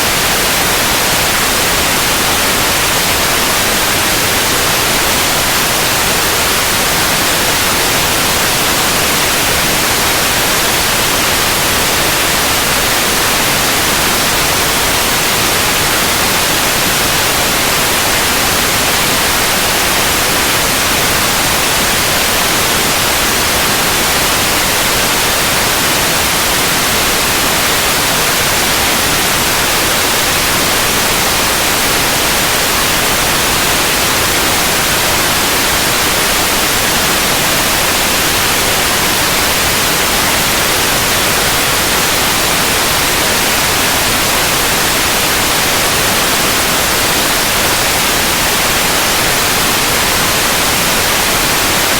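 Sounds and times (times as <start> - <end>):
white noise hiss: 0.0 - 51.9.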